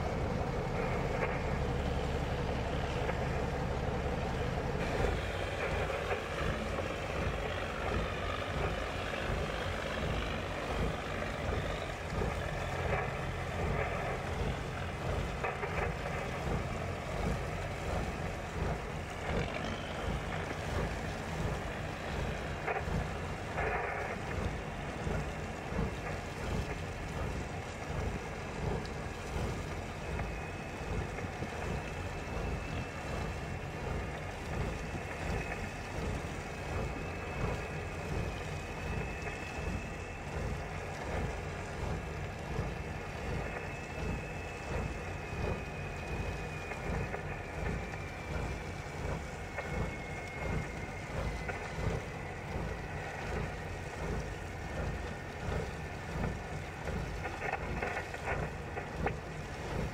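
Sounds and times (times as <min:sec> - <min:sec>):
boat engine rumble: 0:00.0 - 0:59.9
faint high whine: 0:00.0 - 0:59.9.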